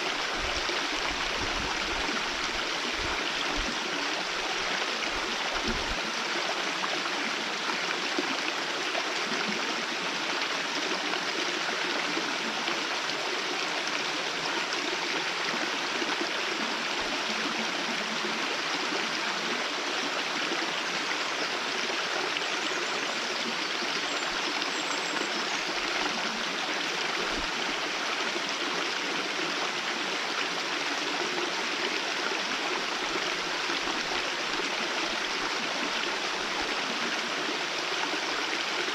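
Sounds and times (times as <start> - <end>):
small waterfall rushing: 0.0 - 38.9.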